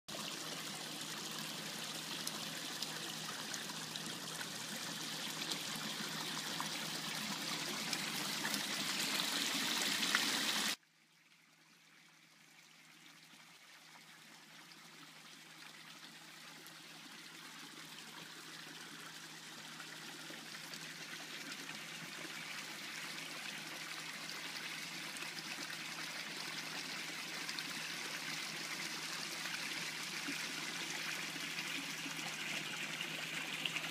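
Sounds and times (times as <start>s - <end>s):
water pouring into a pond: 0.1s - 33.9s.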